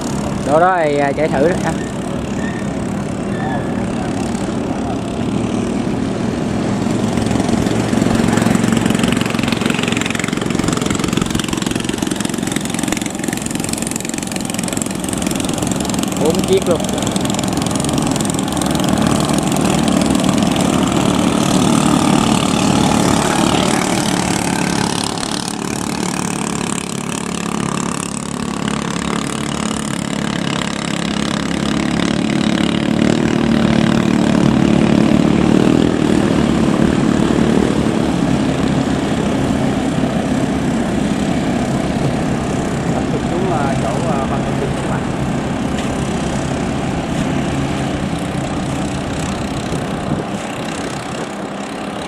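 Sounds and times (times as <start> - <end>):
boat engines buzzing drone: 0.0 - 52.0.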